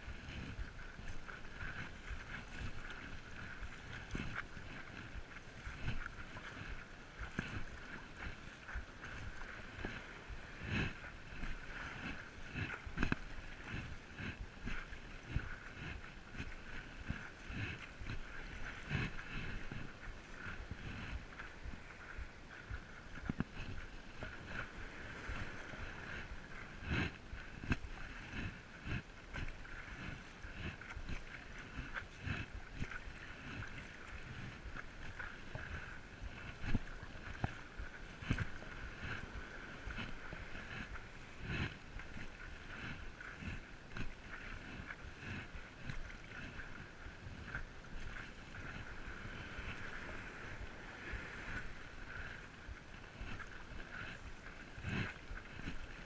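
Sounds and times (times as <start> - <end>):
light wind: 0.0 - 56.0
paddle stroke splashes: 0.0 - 56.0
water lapping at board: 0.0 - 56.0
water rushing: 0.0 - 56.0.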